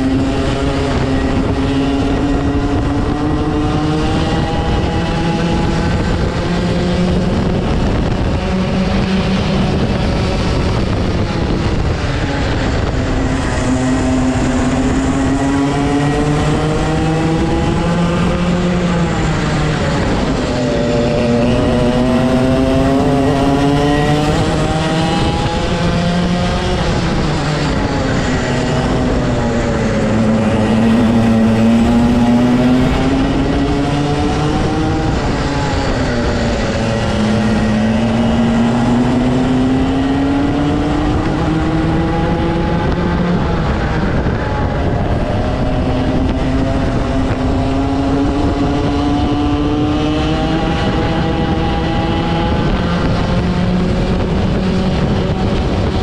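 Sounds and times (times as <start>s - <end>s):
kart engine accelerating and slowing: 0.0s - 56.0s.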